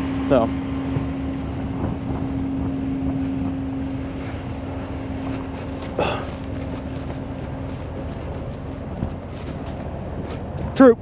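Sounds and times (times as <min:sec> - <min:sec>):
truck engine idling: 0:00.0 - 0:10.6.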